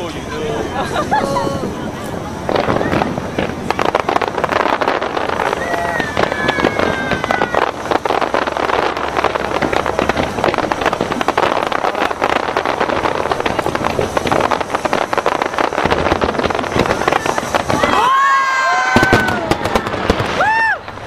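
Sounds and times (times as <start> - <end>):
fireworks crackling: 0.0 - 21.0
falling firework whistles: 2.0 - 21.0.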